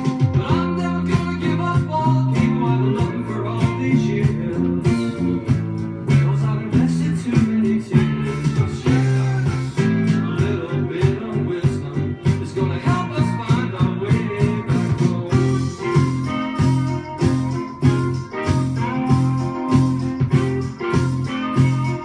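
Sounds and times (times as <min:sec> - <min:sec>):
person singing: 0:00.0 - 0:22.0
picked guitar: 0:00.0 - 0:22.0.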